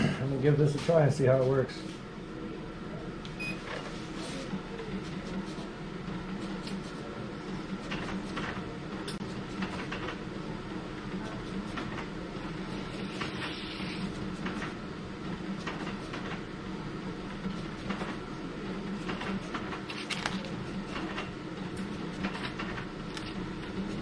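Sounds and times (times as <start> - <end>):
label printer mechanical hum: 0.0 - 24.0.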